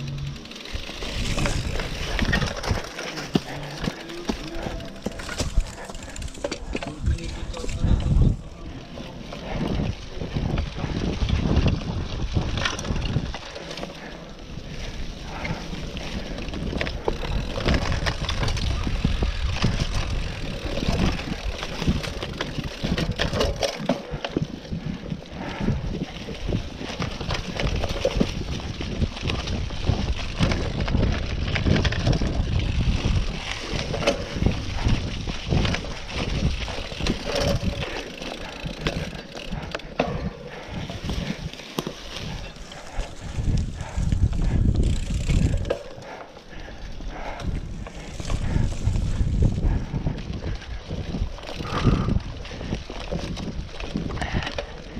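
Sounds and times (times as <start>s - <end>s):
bike rattling over bumps: 0.0s - 54.9s
bike tyres crunching through leaves: 0.0s - 54.9s
wind buffeting microphone: 0.0s - 54.9s.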